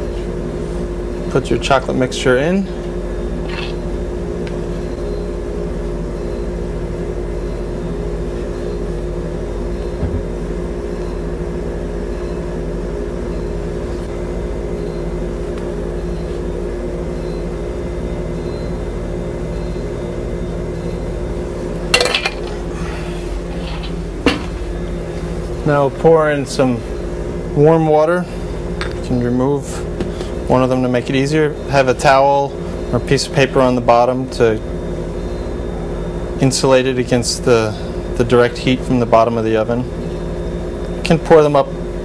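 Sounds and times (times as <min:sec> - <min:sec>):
kitchen machine hum: 0:00.0 - 0:42.0.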